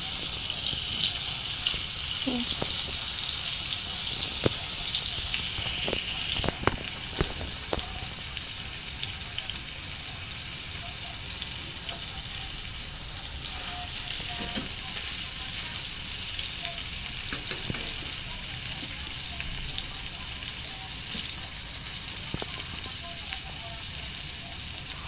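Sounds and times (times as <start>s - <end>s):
steak sizzling in a pan: 0.0s - 25.0s.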